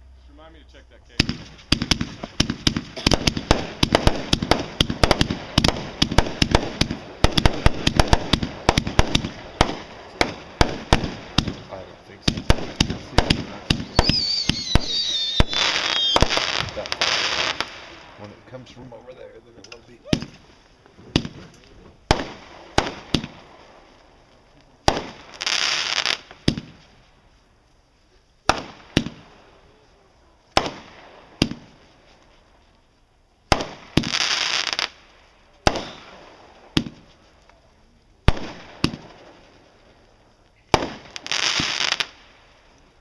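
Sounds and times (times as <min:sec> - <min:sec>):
fireworks hissing crackling burst: 0:00.0 - 0:43.0
fireworks bangs: 0:00.3 - 0:43.0.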